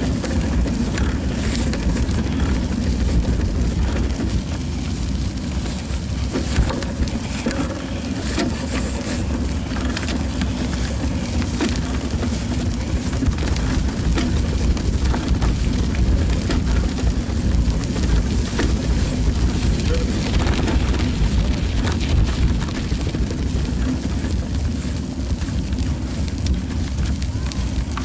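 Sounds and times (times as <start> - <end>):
bicycle tyres on icy path: 0.0 - 28.0
small clicks and rattles: 0.0 - 28.0
wind noise: 0.0 - 28.0.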